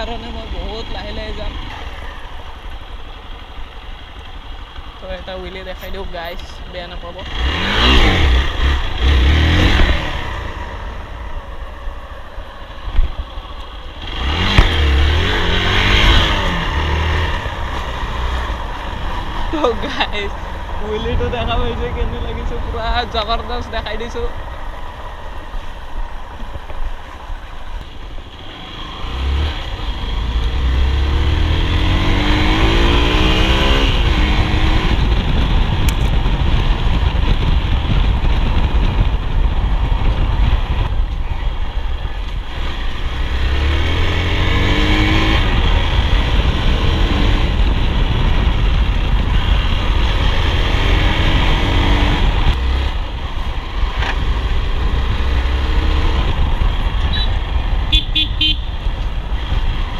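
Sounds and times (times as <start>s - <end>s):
motorcycle engine accelerating: 0.0s - 59.9s
wind rumble on microphone: 5.0s - 59.9s.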